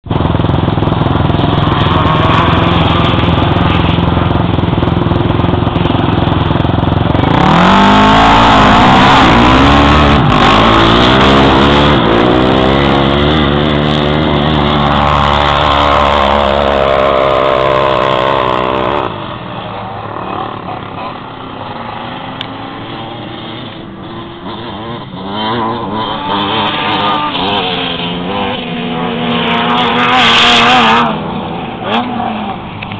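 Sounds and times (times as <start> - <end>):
quad engines running: 0.0 - 32.9
quad engine revving: 0.1 - 32.9.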